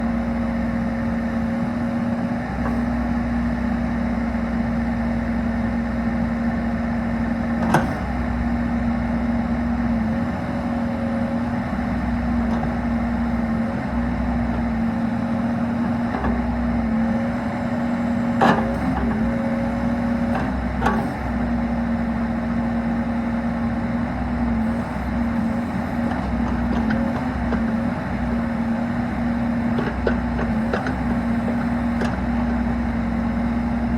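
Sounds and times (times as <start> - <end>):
excavator engine humming: 0.0 - 33.9.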